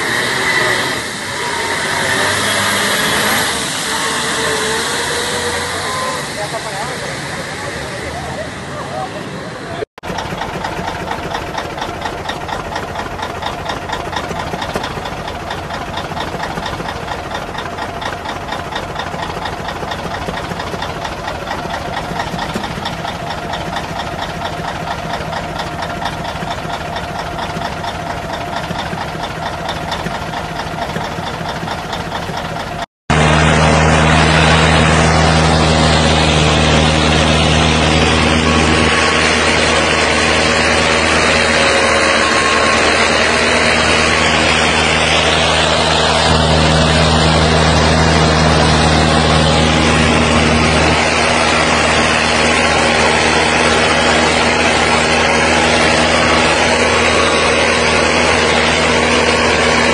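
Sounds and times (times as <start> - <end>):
diesel truck engine idling: 0.0 - 59.9
steady low drone: 0.0 - 59.9.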